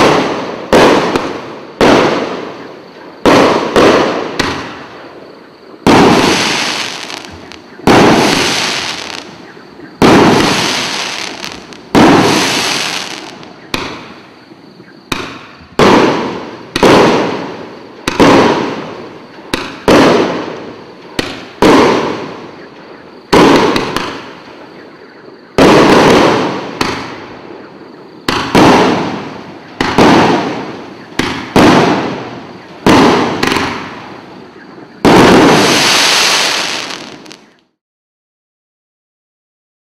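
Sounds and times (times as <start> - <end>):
fireworks bangs: 0.0 - 37.7.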